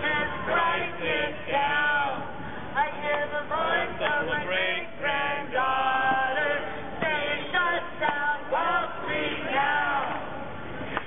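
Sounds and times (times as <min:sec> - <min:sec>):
crowd singing together: 0:00.0 - 0:11.0.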